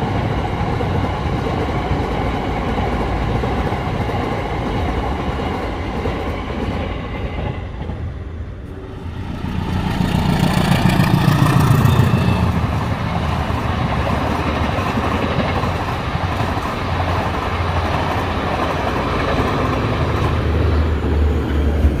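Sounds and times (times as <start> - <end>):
train running past on track: 0.0 - 22.0.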